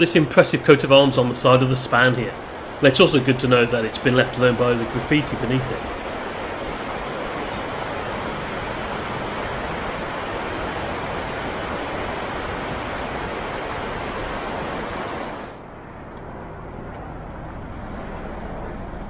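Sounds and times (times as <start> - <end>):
low background rumble: 0.0 - 19.0
river rushing over rocks: 0.1 - 15.6.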